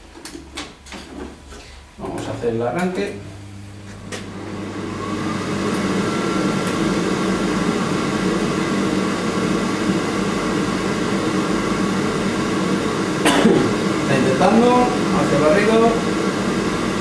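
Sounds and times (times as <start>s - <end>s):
boiler fan whirring: 0.0s - 17.0s.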